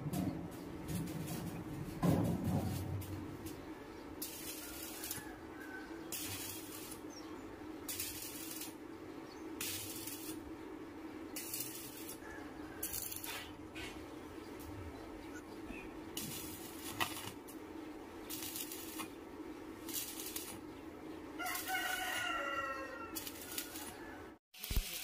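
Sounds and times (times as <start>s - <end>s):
steady low hum: 0.0s - 21.4s
arc welder crackling hisses: 0.6s - 10.6s, 11.3s - 14.8s, 16.1s - 20.7s, 21.4s - 25.0s.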